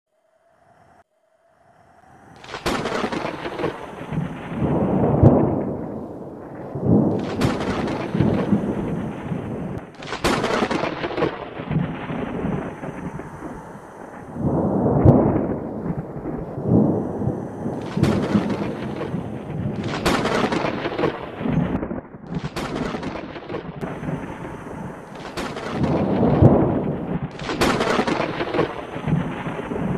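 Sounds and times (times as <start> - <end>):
rolling thunder rumble: 1.7 - 29.9
thunder cracks: 1.8 - 29.9.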